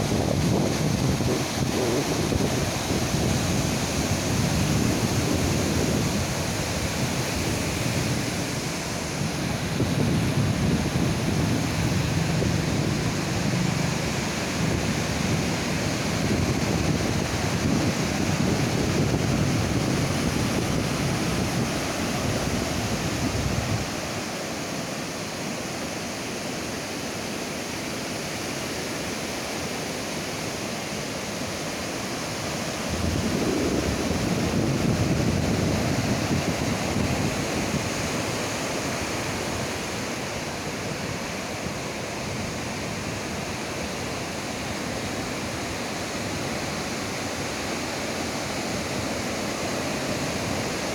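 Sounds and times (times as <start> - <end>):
ocean surf washing onto beach: 0.0 - 50.9.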